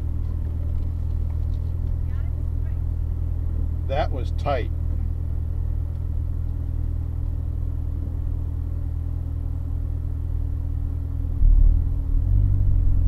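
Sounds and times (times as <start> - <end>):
car engine idling rumble: 0.0 - 13.0.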